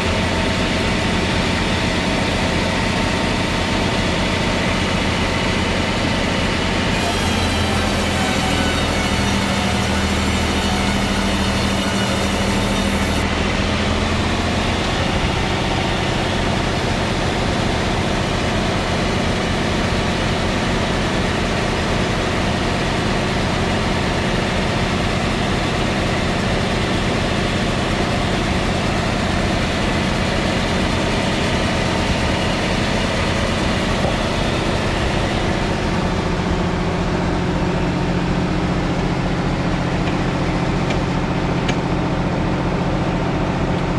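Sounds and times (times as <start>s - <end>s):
machine motor droning: 0.0s - 21.5s, 22.6s - 43.9s.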